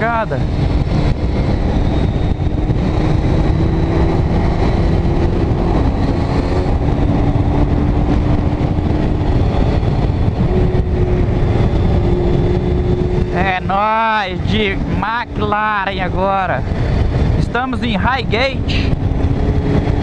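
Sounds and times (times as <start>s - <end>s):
motorcycle engine accelerating: 0.0s - 20.0s
wind rumble: 0.0s - 20.0s.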